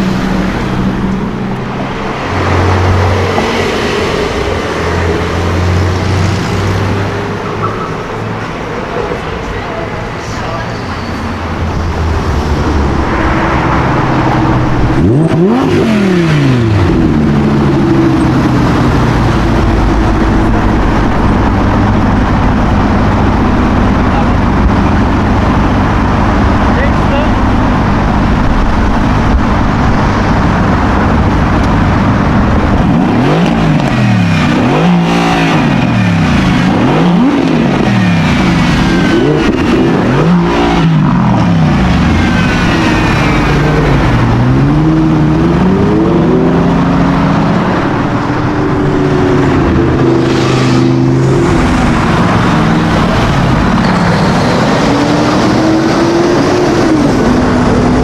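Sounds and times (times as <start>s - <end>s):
car engine revving: 0.0s - 58.0s
street traffic noise: 0.0s - 58.0s.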